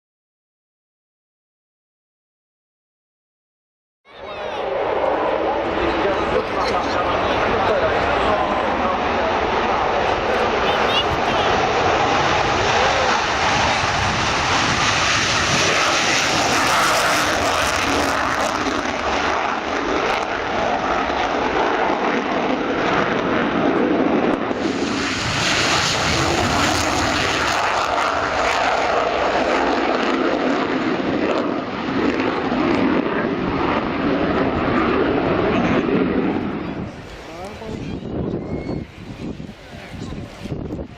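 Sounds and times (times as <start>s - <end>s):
jets flying past: 4.2s - 40.6s.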